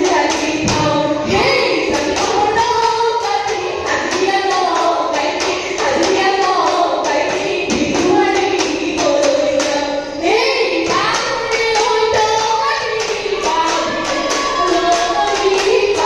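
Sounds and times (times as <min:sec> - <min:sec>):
women singing folk song: 0:00.0 - 0:16.0.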